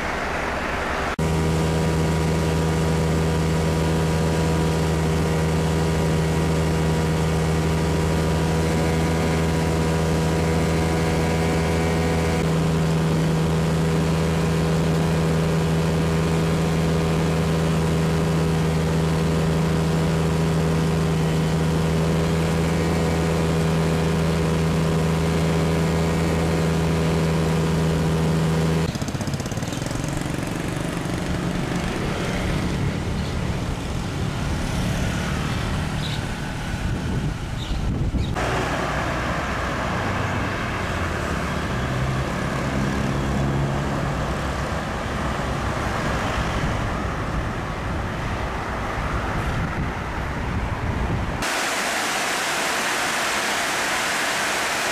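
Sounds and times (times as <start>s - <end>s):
propeller aircraft engine drone: 0.0s - 54.9s
road traffic noise: 0.0s - 54.9s.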